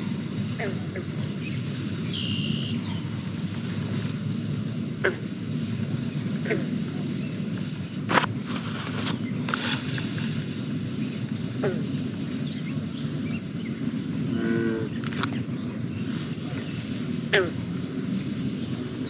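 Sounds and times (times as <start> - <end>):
frog croaking: 0.0 - 19.0
high insect drone: 0.0 - 19.0.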